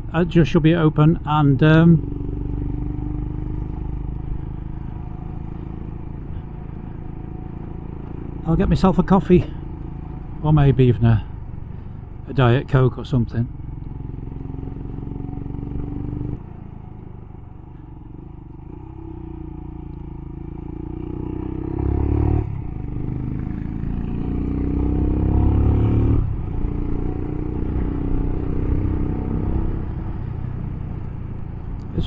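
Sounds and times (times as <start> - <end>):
motorcycle engine accelerating: 1.0 - 12.3, 13.2 - 32.0.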